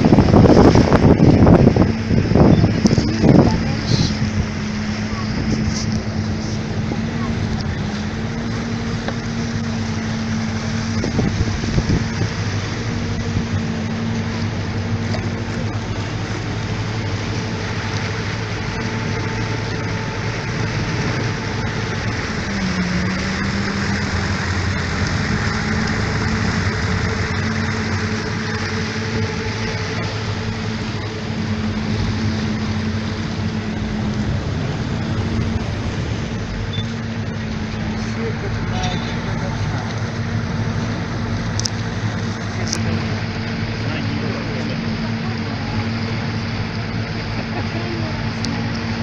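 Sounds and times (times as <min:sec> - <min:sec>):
motorboat engine running: 0:00.0 - 0:49.0.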